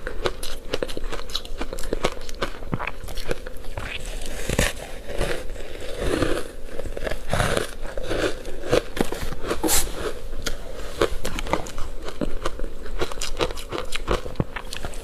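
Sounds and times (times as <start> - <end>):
crunching and chewing ice: 0.0 - 15.0.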